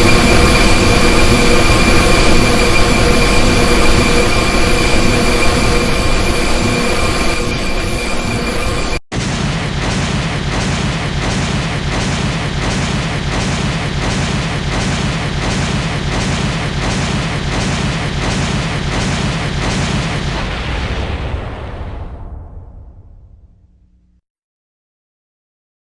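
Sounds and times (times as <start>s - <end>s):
synthetic laser blasts: 0.0s - 21.6s.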